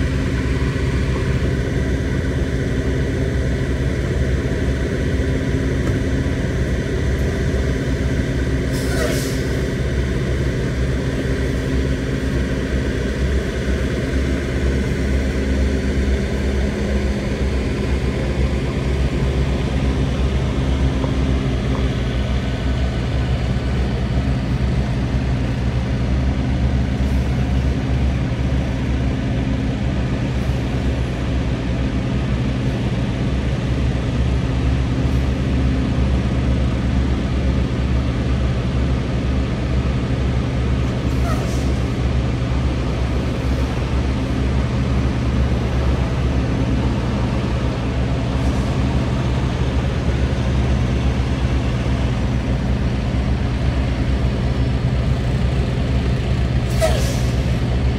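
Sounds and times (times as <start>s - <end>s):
vehicle engines droning: 0.0s - 57.9s.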